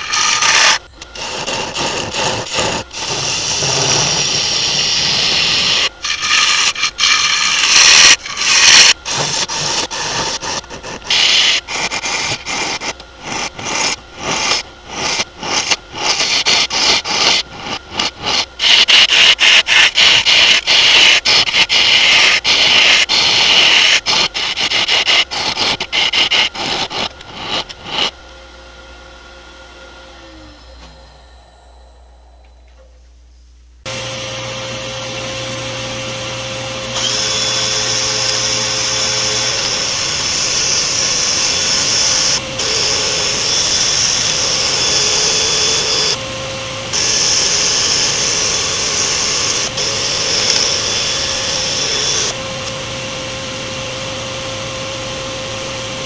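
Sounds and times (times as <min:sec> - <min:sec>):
tool cutting wood on a lathe: 0:00.0 - 0:28.2, 0:33.9 - 0:56.0
lathe humming: 0:00.0 - 0:33.0, 0:33.8 - 0:56.0.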